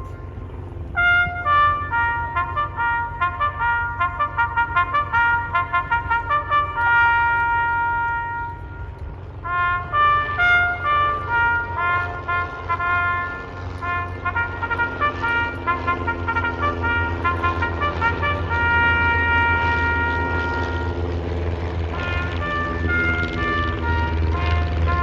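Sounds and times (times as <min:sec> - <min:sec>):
steady low rumble: 0:00.0 - 0:25.0
brass music led by trumpets: 0:00.8 - 0:25.0.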